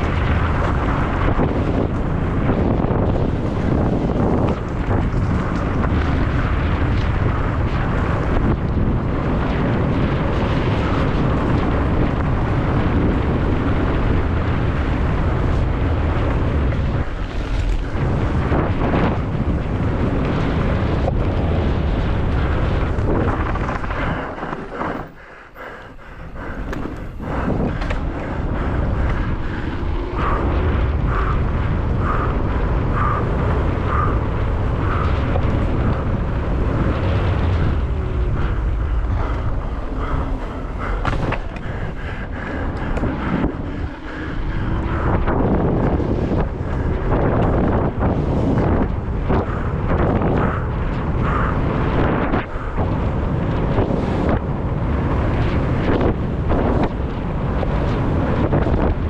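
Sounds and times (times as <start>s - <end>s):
bike rattling on rough ground: 0.0s - 59.0s
wind buffeting microphone: 0.0s - 59.0s.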